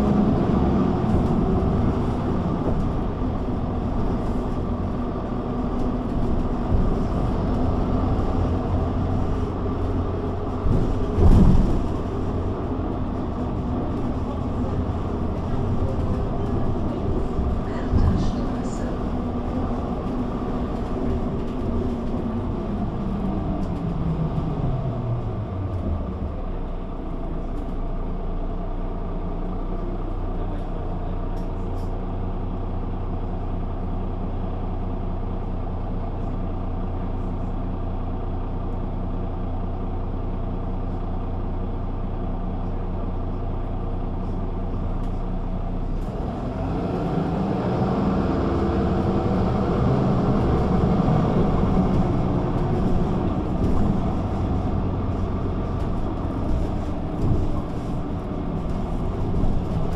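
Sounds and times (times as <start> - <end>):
bus accelerating: 0.0 - 59.9
bus diesel engine idling: 0.0 - 59.9.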